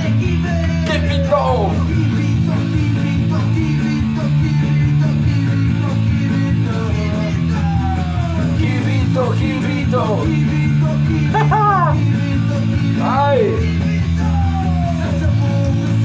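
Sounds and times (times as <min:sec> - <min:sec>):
rock song with vocals: 0:00.0 - 0:16.0.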